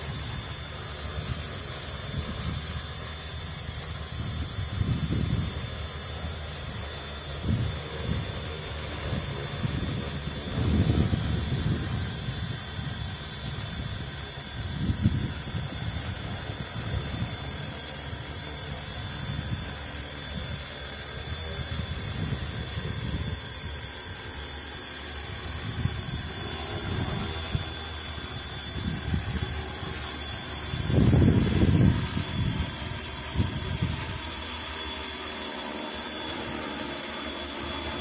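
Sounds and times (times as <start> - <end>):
drone propellers whining: 0.0 - 38.0
wind gusts: 0.0 - 38.0.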